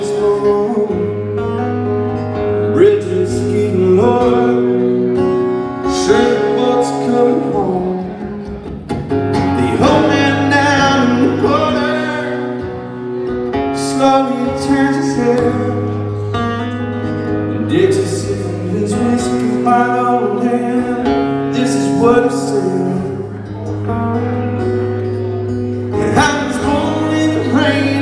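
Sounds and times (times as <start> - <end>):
man singing: 0.0 - 24.1, 25.7 - 28.0
acoustic guitar playing: 0.0 - 28.0.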